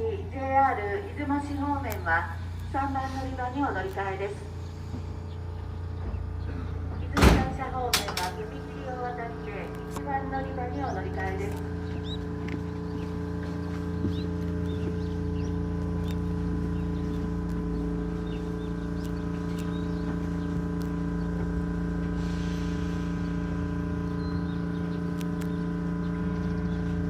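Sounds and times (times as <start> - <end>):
electric railcar hum: 0.0 - 27.0
small birds chirping: 0.0 - 27.0.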